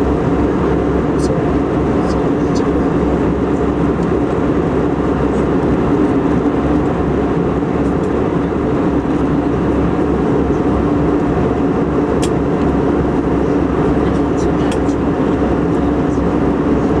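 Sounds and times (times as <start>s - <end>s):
airliner cabin engine drone: 0.0s - 17.0s
steady low hum: 0.0s - 17.0s.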